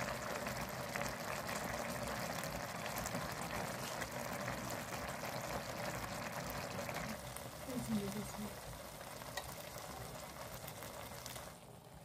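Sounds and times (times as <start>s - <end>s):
food bubbling in a pan: 0.0s - 12.0s.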